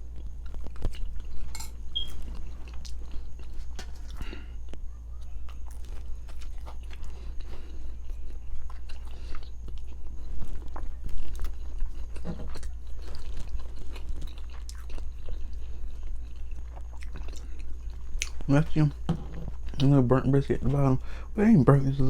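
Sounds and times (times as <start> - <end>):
person chewing food: 0.0 - 20.0
low electrical hum: 0.0 - 22.0
mouth clicks and crunches: 0.1 - 19.0.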